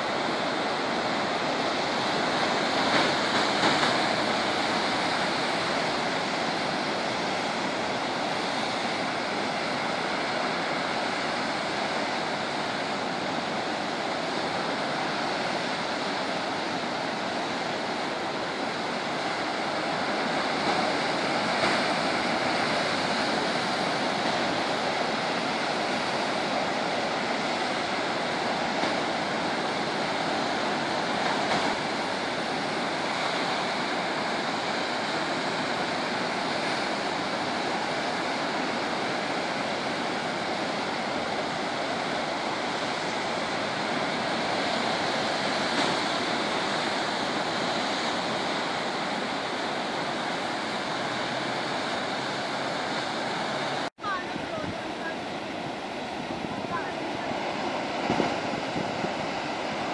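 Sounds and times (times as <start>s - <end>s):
waves breaking on rocky shore: 0.0s - 59.9s.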